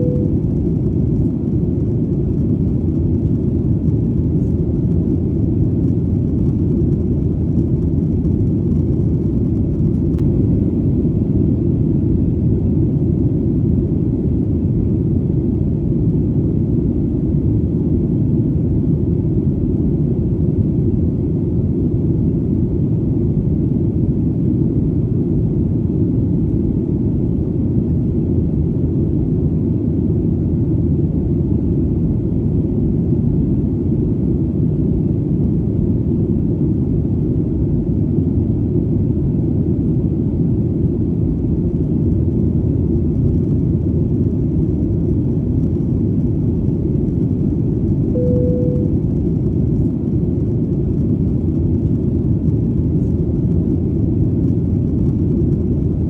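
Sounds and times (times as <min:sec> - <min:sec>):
airplane engine drone: 0:00.0 - 0:56.0.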